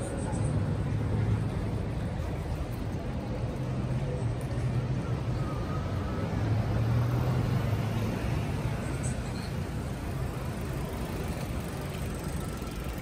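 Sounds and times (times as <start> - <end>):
outdoor street noise: 0.0 - 13.0.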